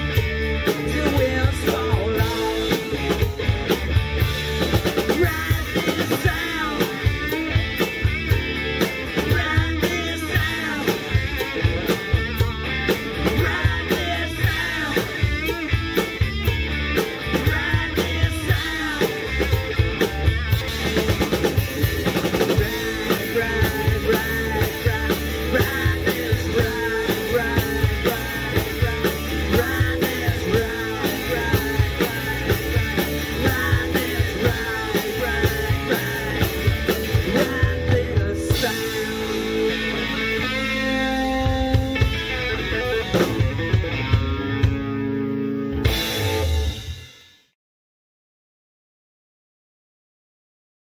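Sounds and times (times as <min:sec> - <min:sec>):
drum kit beat: 0:00.0 - 0:47.3
electric guitar: 0:00.0 - 0:47.5.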